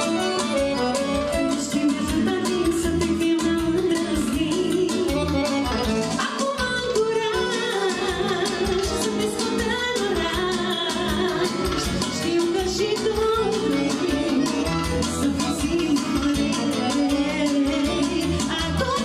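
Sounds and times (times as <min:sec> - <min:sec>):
accordion: 0:00.0 - 0:19.0
keyboards: 0:00.0 - 0:19.0
woman singing: 0:00.0 - 0:19.0.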